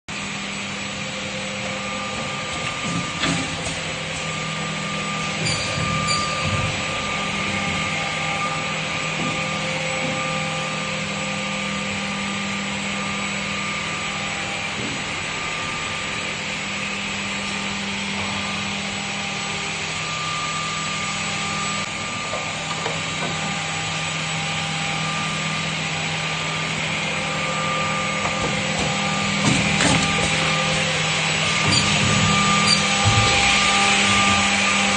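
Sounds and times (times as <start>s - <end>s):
machine motor hum: 0.1s - 34.9s.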